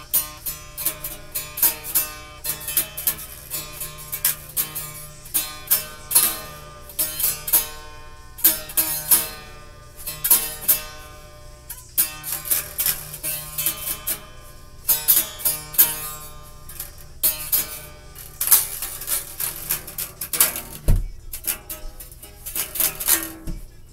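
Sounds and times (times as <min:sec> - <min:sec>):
acoustic guitar plucked: 0:00.0 - 0:23.9.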